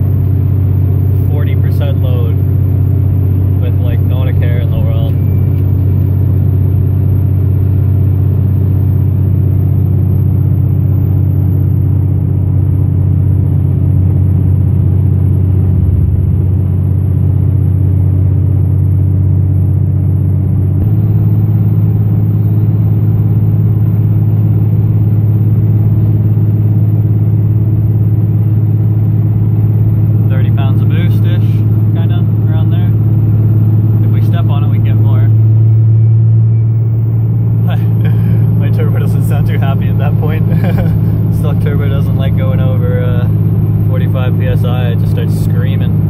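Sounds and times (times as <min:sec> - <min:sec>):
diesel engine drone inside cab: 0:00.0 - 0:46.0.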